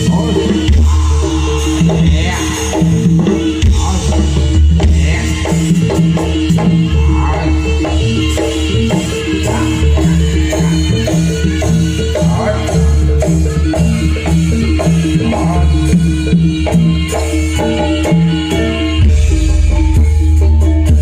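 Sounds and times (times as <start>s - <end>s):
gamelan ensemble music: 0.0s - 21.0s.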